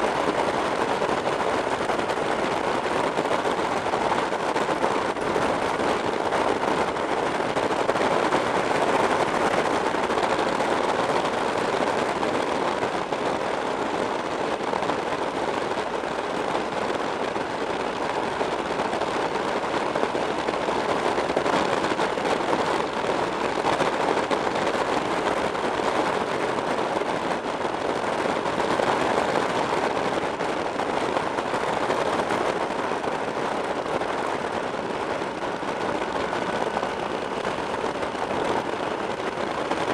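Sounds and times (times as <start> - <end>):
motorcycle road noise: 0.0 - 39.9
wind buffeting microphone: 0.0 - 39.9.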